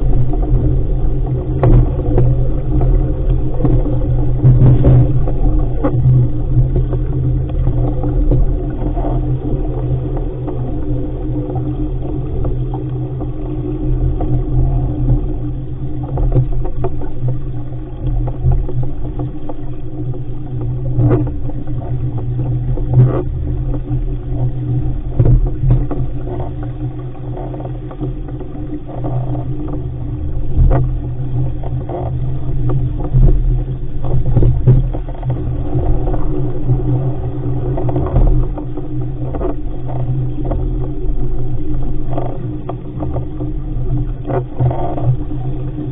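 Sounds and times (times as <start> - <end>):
water rushing along hull: 0.0 - 45.9
waves slapping hull: 0.0 - 45.9
wind on microphone: 0.0 - 45.9.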